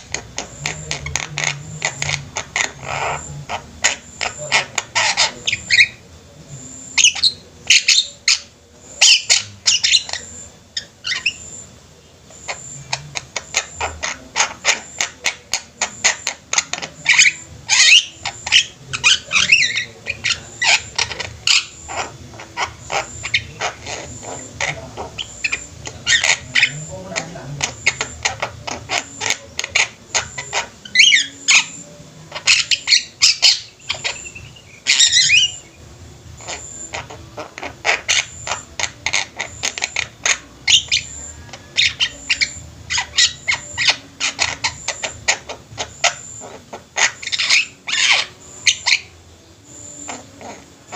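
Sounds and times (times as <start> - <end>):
harsh squawking bird calls: 0.0 - 6.0, 6.6 - 50.9
mynas chirping and clicking: 0.0 - 6.0, 6.6 - 11.7, 12.3 - 35.8, 36.4 - 50.9.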